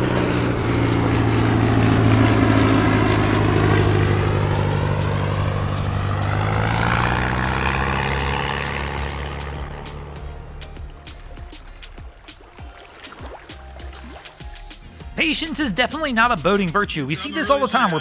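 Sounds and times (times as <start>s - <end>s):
propeller plane flying overhead: 0.0s - 16.7s
outboard motors droning: 0.0s - 18.0s.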